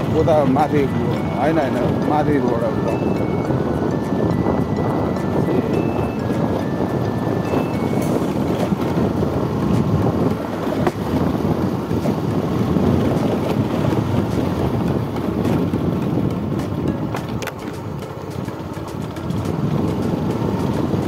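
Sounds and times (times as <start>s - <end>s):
motorcycle engine: 0.0s - 21.0s
wind buffeting microphone: 0.0s - 21.0s.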